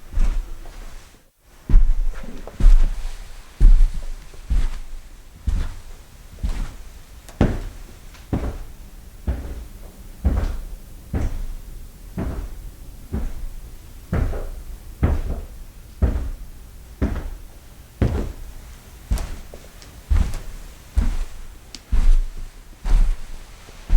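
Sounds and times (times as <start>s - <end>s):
footsteps walking: 0.0s - 23.9s.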